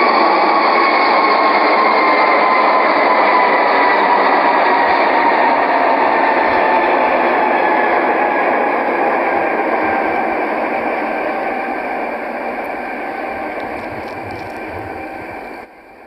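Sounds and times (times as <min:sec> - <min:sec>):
jet engines roaring in cabin: 0:00.0 - 0:16.0.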